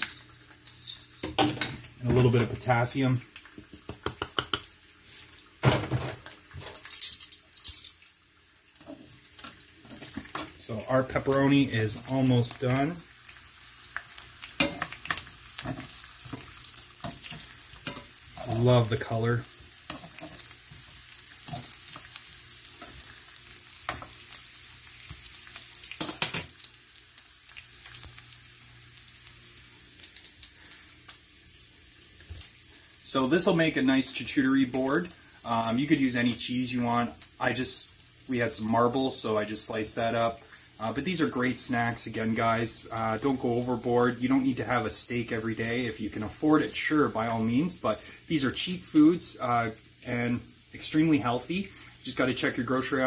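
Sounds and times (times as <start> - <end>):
meat sizzling in a frying pan: 0.0 - 53.0.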